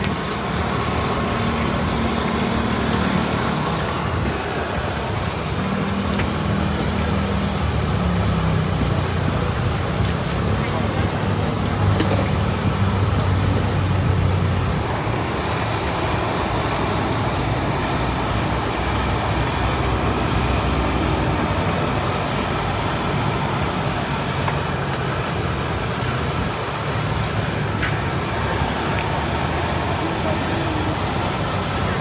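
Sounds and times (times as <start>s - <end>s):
dough sizzling in hot oil: 0.0s - 25.6s.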